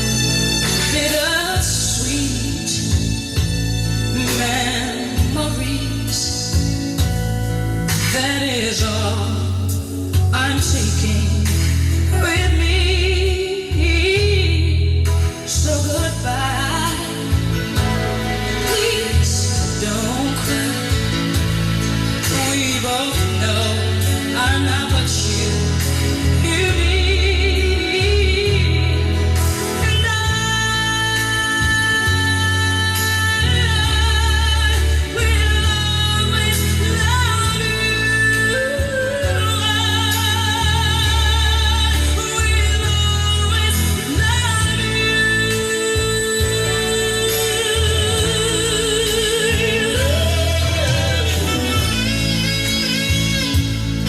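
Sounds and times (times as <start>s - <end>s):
song with singing over heavy bass: 0.0s - 54.0s.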